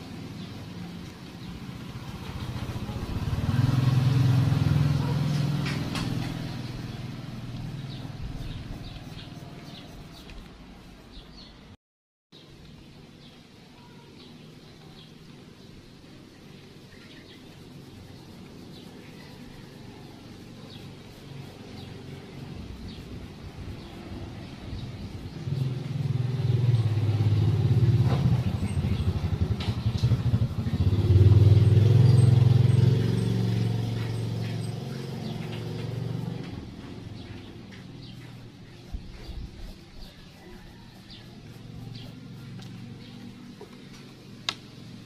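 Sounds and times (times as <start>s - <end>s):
vehicle engine passing by: 0.0s - 10.3s, 16.7s - 45.0s.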